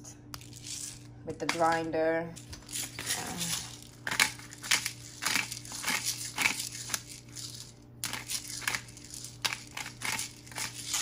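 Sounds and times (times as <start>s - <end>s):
pepper grinder crunching peppercorns: 0.3s - 11.0s.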